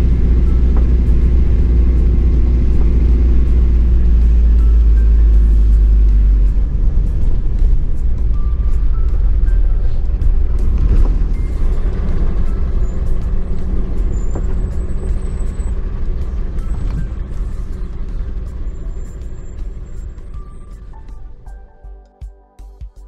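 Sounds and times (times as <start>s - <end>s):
truck engine and tyres rumbling: 0.0s - 21.8s.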